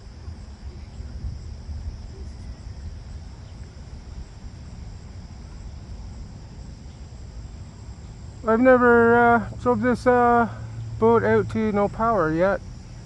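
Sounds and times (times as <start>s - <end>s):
crickets chirping: 0.0s - 13.0s
wind buffeting microphone: 0.0s - 13.0s.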